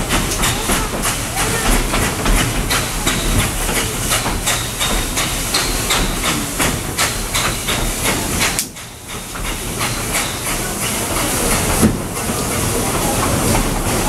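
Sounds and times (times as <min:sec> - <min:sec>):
steady steam hiss: 0:00.0 - 0:14.0
steam locomotive chuffing: 0:00.0 - 0:14.0.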